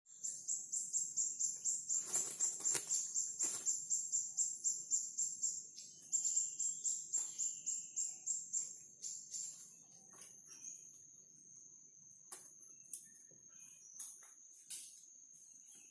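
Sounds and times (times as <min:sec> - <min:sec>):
high-pitched insect chirping: 0:00.1 - 0:15.9.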